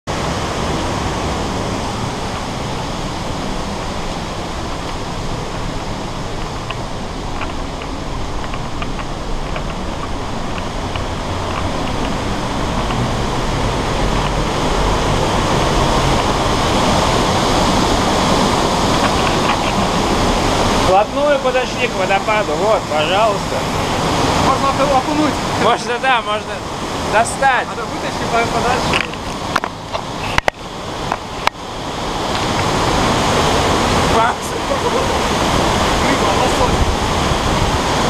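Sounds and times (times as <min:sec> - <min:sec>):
waterfall roaring: 0:00.1 - 0:38.0.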